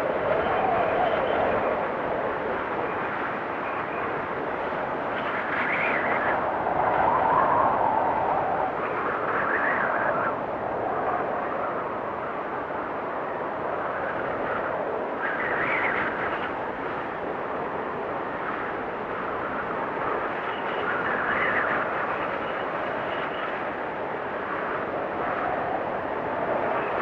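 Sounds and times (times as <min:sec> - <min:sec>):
storm wind gusting and whistling: 0:00.0 - 0:27.0.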